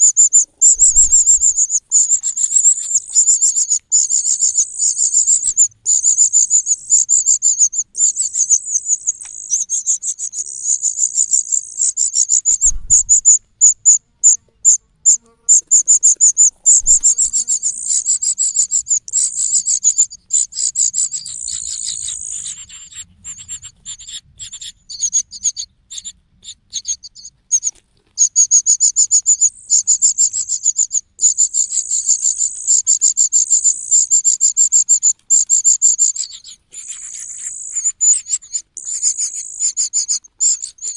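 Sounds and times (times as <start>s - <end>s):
chick begging calls: 0.0s - 40.9s.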